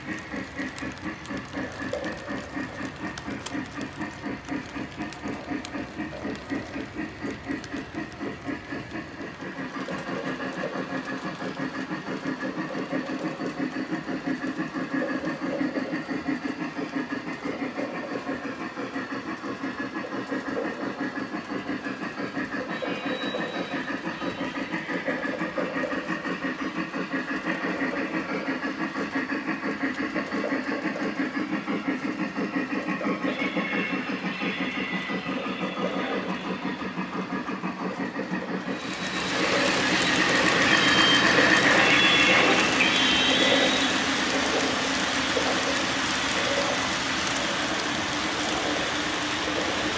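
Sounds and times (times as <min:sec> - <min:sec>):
model train steam chuffing: 0:00.0 - 0:49.9.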